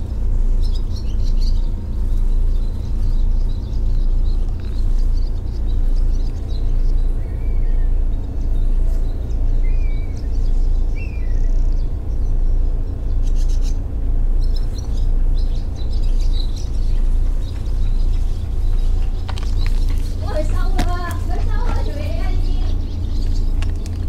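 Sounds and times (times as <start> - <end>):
pulsing low hum: 0.0 - 24.0
small birds chirping: 0.0 - 24.0.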